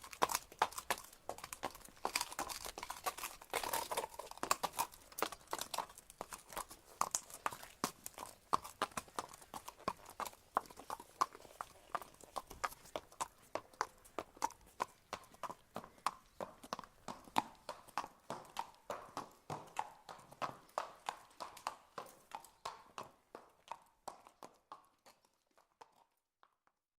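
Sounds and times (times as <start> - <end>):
horse hooves clip-clopping: 0.0 - 26.8.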